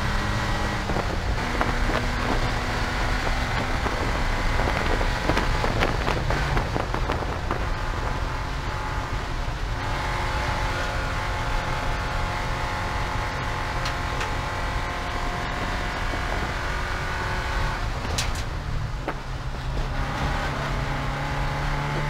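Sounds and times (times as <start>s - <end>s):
race car engine: 0.0s - 22.0s
road noise: 0.0s - 22.0s.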